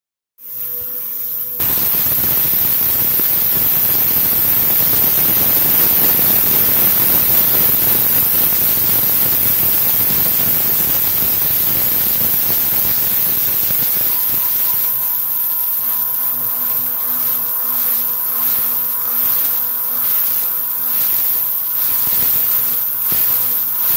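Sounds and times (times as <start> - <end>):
machine whine: 0.4 - 23.9
air nozzle hissing: 0.5 - 23.9
milling machine cutting: 0.7 - 23.9.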